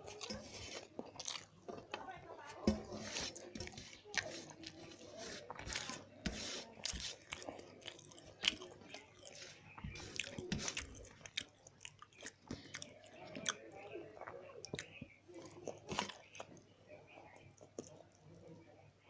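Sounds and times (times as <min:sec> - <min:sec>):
mouth clicks and crunches: 0:00.0 - 0:02.1, 0:03.1 - 0:16.7, 0:17.3 - 0:18.5
person chewing food: 0:00.0 - 0:18.3.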